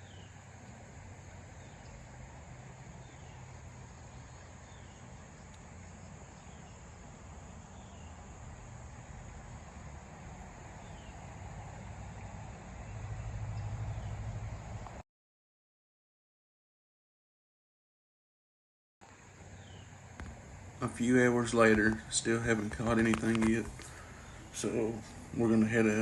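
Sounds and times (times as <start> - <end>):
steady low hum and hiss: 0.0 - 15.0, 19.0 - 26.0.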